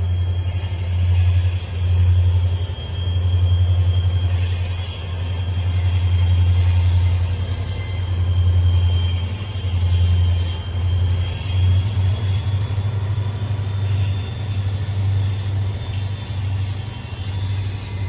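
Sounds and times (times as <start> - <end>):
train rumbling: 0.0 - 18.0
wheel squeal: 0.0 - 18.0.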